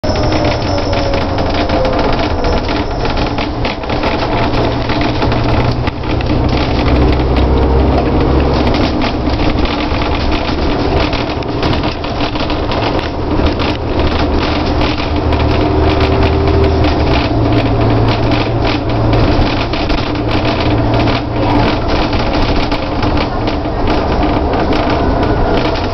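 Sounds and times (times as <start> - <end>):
bodywork rattles and clicks: 0.0 - 25.9
bus engine drone: 0.0 - 25.9.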